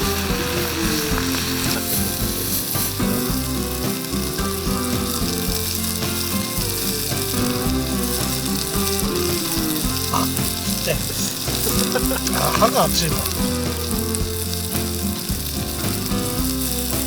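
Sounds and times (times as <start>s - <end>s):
background music with a beat: 0.0s - 17.0s
food sizzling on a grill: 0.0s - 17.0s.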